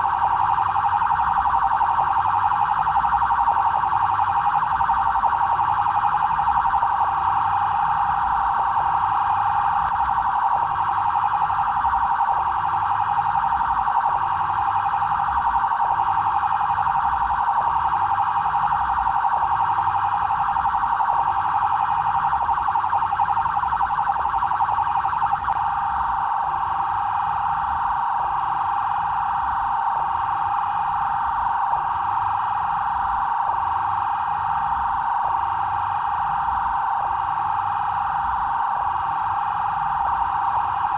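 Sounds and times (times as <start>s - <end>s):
electronic police siren: 0.0s - 40.9s.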